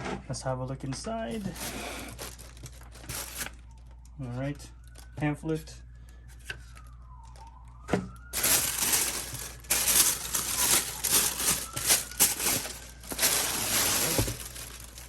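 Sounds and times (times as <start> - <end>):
packaging rustling and crinkling: 1.3 - 5.2, 6.3 - 15.0
faint siren-like wail: 1.4 - 15.0.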